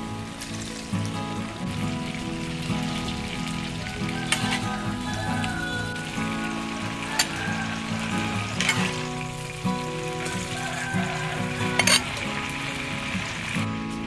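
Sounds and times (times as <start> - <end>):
background music with held notes: 0.0 - 14.0
water splashing into metal bowl: 0.4 - 13.5.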